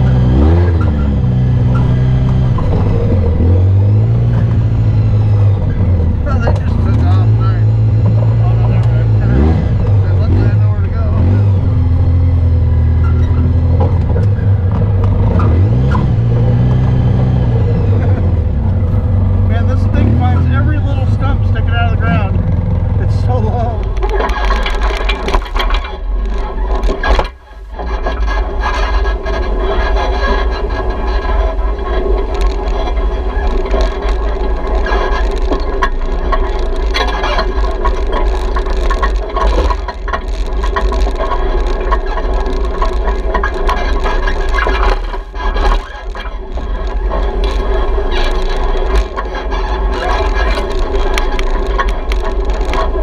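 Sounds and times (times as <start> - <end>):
knocks and rattles: 0.0 - 53.0
off-road vehicle rumbling: 0.0 - 53.0.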